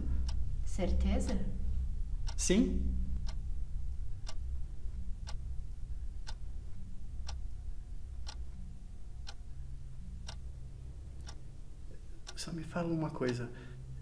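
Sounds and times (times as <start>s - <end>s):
clock ticking: 0.0s - 14.0s
low steady hum: 0.0s - 14.0s.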